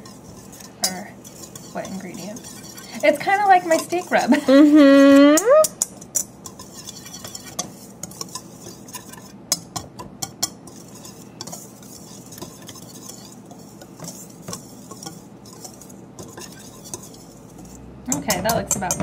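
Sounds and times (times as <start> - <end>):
whisk stirring dry mix: 0.0 - 19.0
whisk wires clicking on metal bowl: 0.0 - 19.0.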